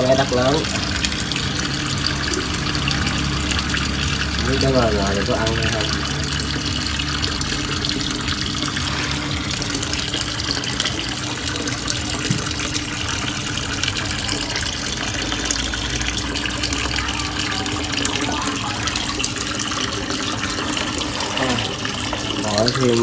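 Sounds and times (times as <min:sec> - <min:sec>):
water splashing into a tub: 0:00.0 - 0:23.0.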